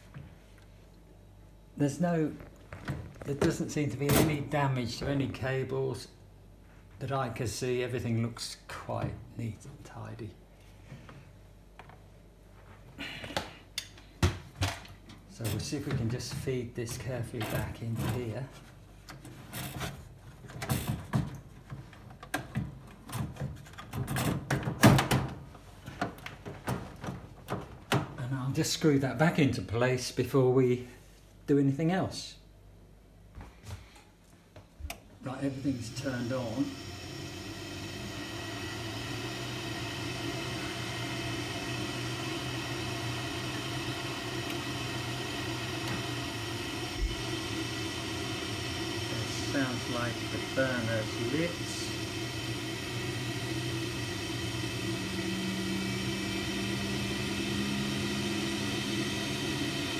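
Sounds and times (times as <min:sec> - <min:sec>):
gas boiler fan humming: 0:00.0 - 0:30.0, 0:32.9 - 0:59.9.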